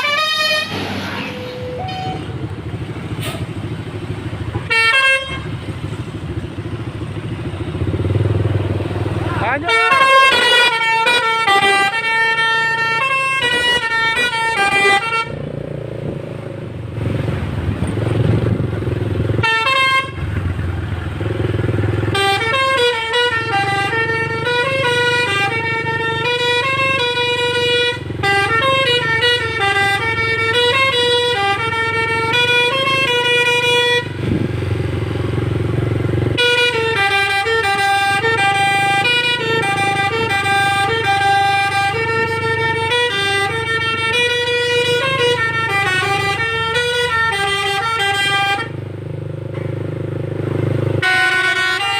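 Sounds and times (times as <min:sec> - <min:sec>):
bus multi-note horn melody: 0:00.0 - 0:03.7, 0:04.4 - 0:08.3, 0:09.4 - 0:15.8, 0:19.2 - 0:48.9, 0:50.8 - 0:51.9
bus engine running: 0:00.0 - 0:51.9.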